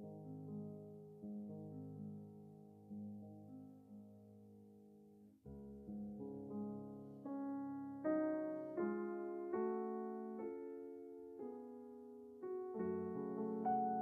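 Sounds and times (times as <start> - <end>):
soft solo piano music: 0.0 - 14.0.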